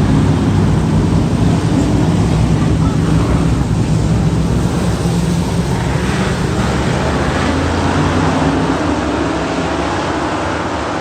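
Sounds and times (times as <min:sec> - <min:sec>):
road and wind hiss: 0:00.0 - 0:11.0
vehicle engine droning: 0:00.0 - 0:11.0.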